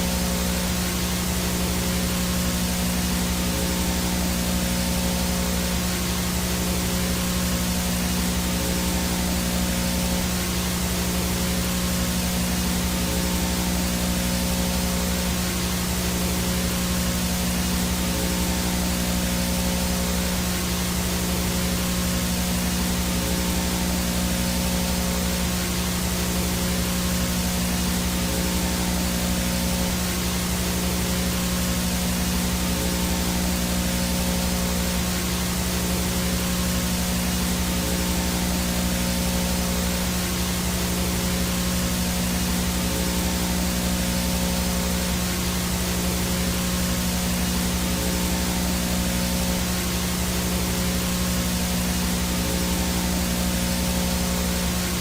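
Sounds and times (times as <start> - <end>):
low electrical hum: 0.0 - 55.0
static hiss: 0.0 - 55.0.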